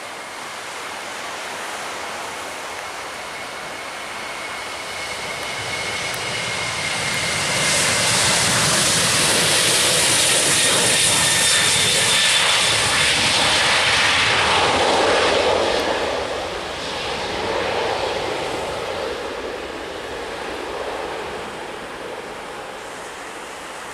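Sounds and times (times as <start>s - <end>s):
jet airliner passing overhead: 0.0s - 23.9s.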